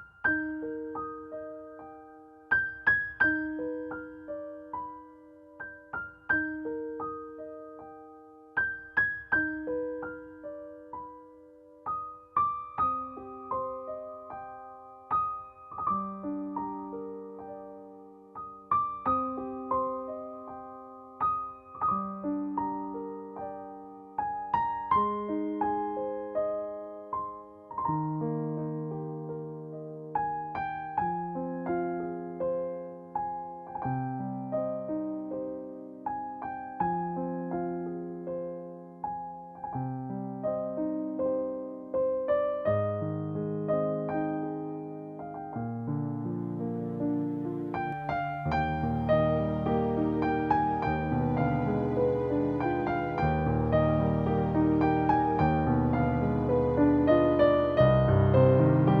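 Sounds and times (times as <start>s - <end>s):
soft piano melody: 0.0s - 59.0s.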